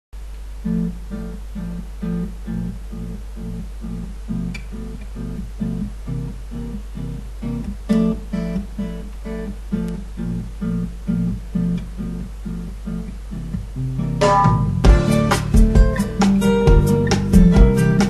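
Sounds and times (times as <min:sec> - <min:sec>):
acoustic guitar music: 0:00.6 - 0:18.0.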